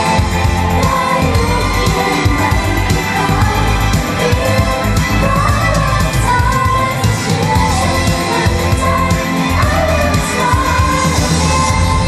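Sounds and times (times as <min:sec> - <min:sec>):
girl group singing: 0:00.0 - 0:12.0.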